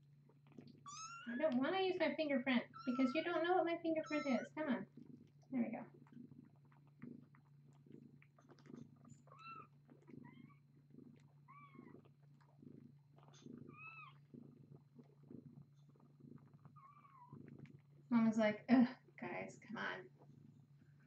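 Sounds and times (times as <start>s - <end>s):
kittens purring: 0.0s - 21.0s
kittens suckling clicks: 0.1s - 18.1s.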